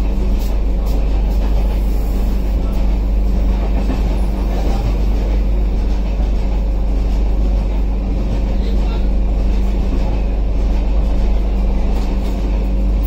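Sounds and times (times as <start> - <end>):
passing train: 0.0 - 13.0
train coach rumbling: 0.0 - 13.0.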